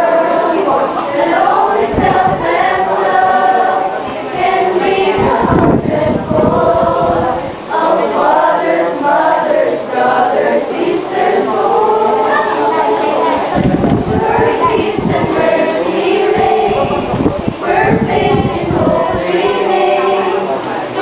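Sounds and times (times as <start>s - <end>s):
students singing in chorus: 0.0s - 21.0s.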